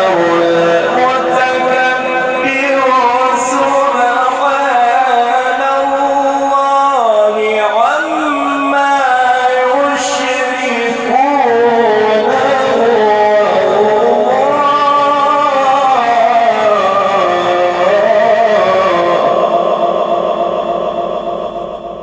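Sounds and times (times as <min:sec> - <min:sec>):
man chanting: 0:00.0 - 0:19.7.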